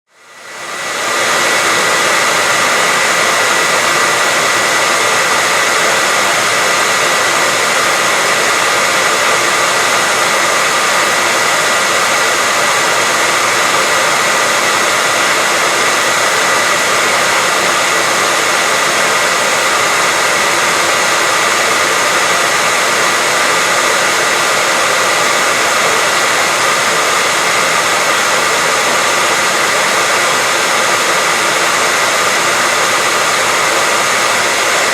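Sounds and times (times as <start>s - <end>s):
hair dryer running: 0.1s - 34.9s.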